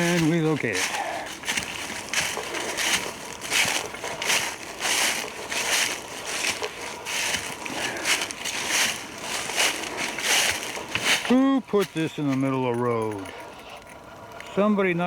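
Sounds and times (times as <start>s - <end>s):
footsteps crunching dry leaves: 0.0s - 12.7s.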